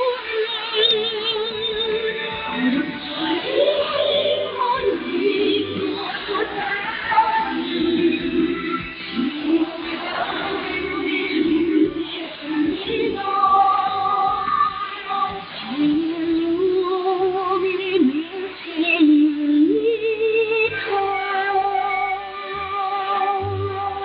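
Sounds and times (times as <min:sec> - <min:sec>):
woman singing over radio: 0:00.0 - 0:24.0.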